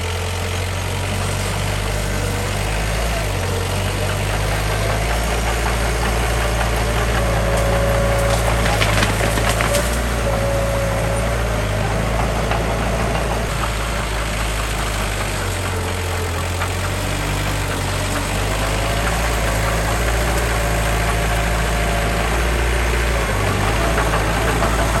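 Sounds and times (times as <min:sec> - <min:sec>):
heavy diesel machinery running: 0:00.0 - 0:25.0.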